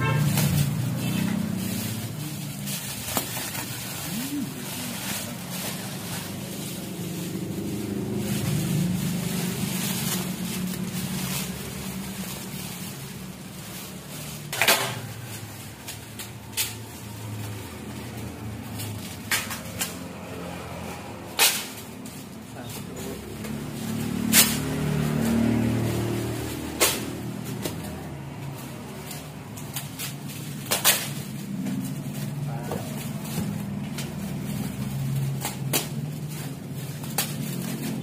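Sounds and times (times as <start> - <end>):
plastic packaging crinkling: 0.0 - 38.0.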